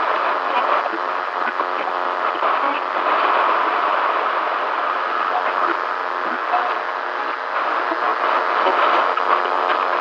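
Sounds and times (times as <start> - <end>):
radio crackles: 0.0 - 10.0
radio static and buzzing: 0.0 - 10.0.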